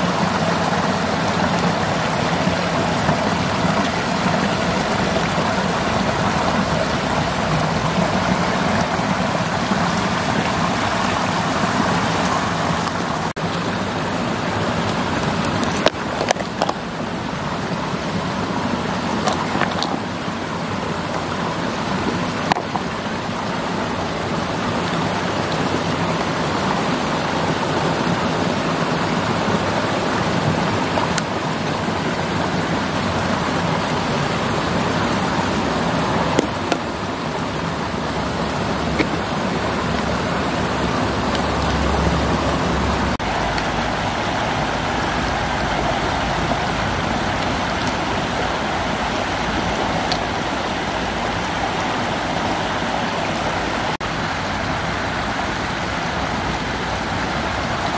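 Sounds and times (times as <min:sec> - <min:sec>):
stream water pouring over weir: 0:00.0 - 0:57.9.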